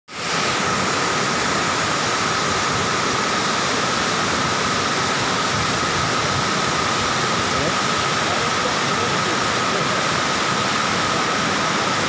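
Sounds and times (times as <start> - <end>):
waterfall rushing into pool: 0.1 - 12.0.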